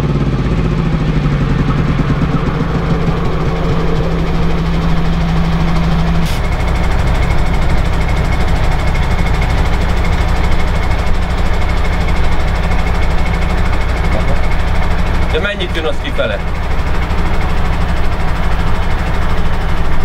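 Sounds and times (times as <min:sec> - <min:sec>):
diesel engine idling: 0:00.0 - 0:20.0
high steady hum: 0:00.0 - 0:20.0.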